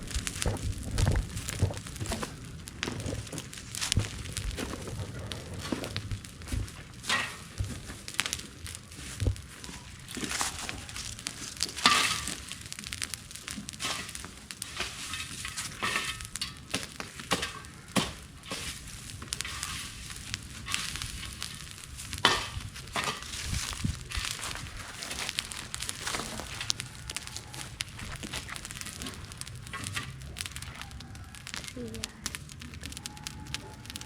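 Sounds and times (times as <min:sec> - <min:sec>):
brush fire crackling and popping: 0:00.0 - 0:34.0
fire hiss: 0:00.0 - 0:34.0.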